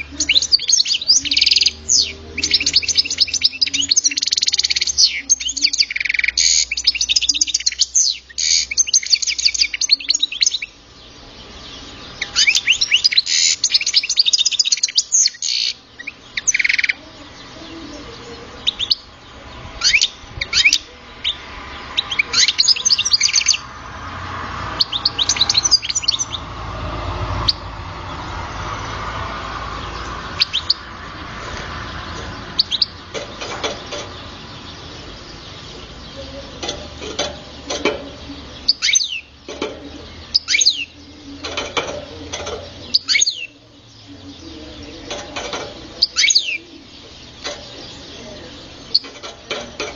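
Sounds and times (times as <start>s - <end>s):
goldfinch singing: 0.0s - 49.9s.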